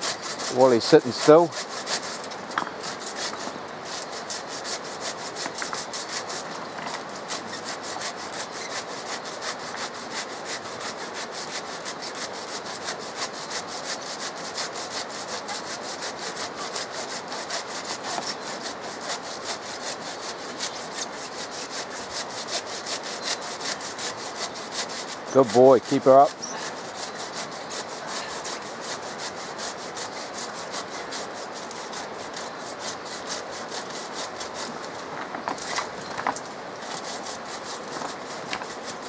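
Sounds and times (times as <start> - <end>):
hand saw cutting: 0.0 - 36.0, 36.8 - 39.0.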